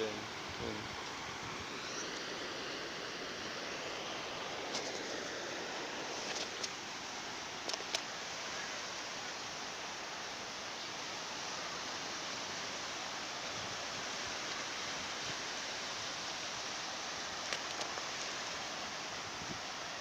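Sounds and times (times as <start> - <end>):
surf washing on beach: 0.0 - 20.0.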